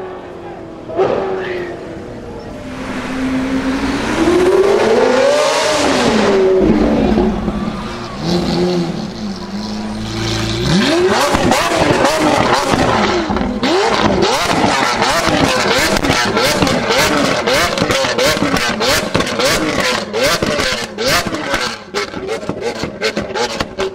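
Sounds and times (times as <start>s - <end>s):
car engine revving: 0.9s - 23.9s.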